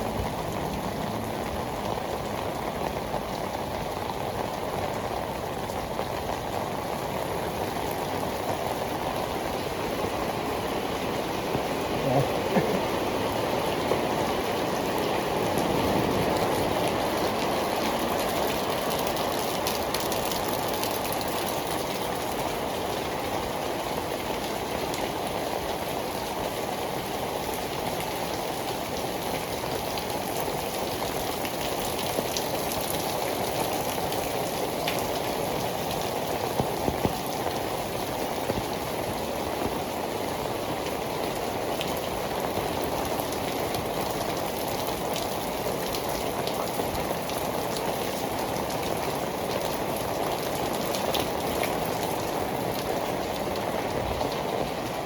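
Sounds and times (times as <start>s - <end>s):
heavy rain on pavement: 0.0s - 55.0s
sharp ticks of raindrops: 0.0s - 55.0s.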